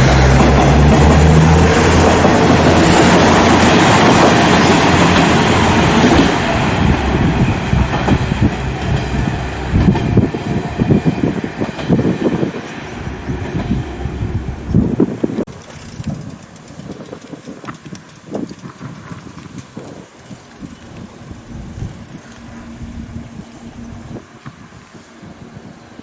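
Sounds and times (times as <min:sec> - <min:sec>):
diesel railcar running on rails: 0:00.0 - 0:26.0
uneven gusty noise: 0:00.0 - 0:26.0.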